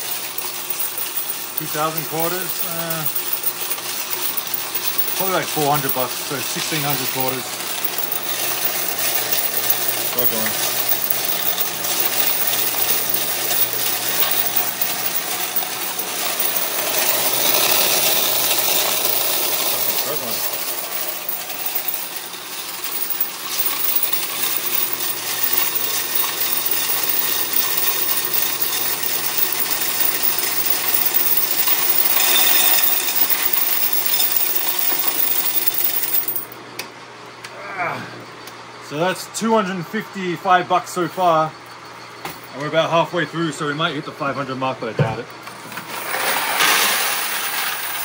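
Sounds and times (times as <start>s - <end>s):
coin counter clattering: 0.0s - 36.6s, 45.7s - 48.0s.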